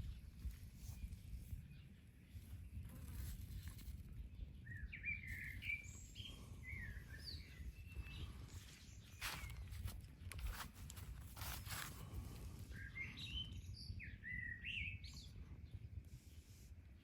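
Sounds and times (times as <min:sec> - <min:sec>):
songbird chirping: 0:00.0 - 0:15.8
wind on microphone: 0:00.0 - 0:16.7.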